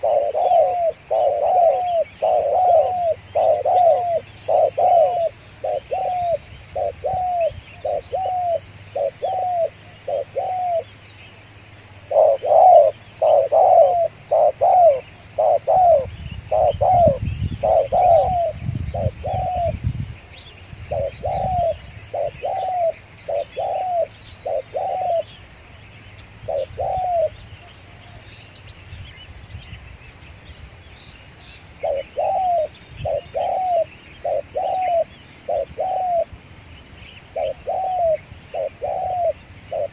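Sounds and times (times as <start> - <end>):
doves cooing: 0.0 - 11.0, 12.0 - 19.8, 20.9 - 25.4, 26.4 - 28.3, 31.8 - 36.3, 37.2 - 39.9.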